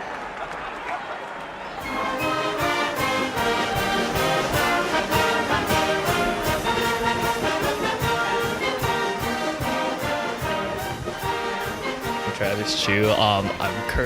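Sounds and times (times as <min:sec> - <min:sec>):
orchestral brass music: 0:01.8 - 0:14.0.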